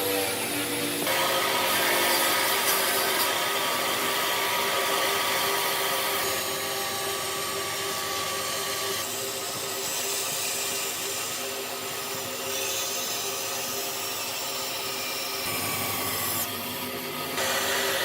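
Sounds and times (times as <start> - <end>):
power tool cutting wood: 0.0 - 18.0.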